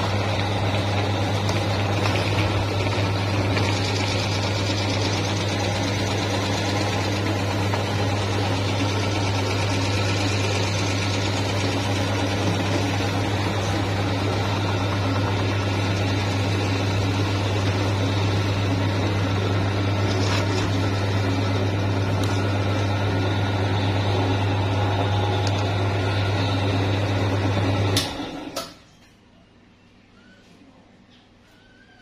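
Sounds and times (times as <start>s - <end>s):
electric meat grinder humming: 0.0s - 28.6s.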